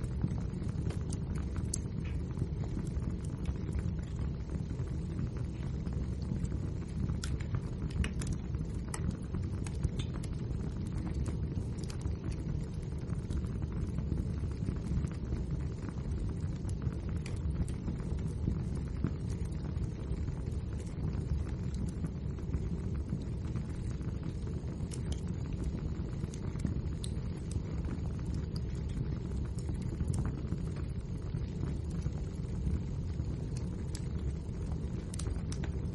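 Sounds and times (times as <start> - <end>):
logs crackling and popping: 0.0 - 35.9
wood fire rumbling: 0.0 - 35.9.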